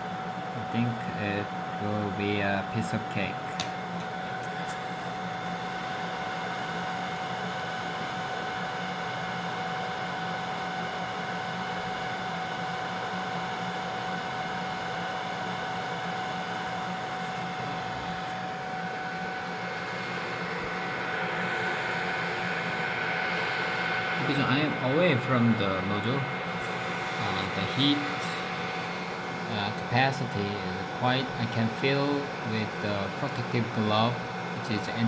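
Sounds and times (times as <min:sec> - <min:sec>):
machine fan humming: 0:00.0 - 0:35.0
steady whine: 0:00.0 - 0:35.0.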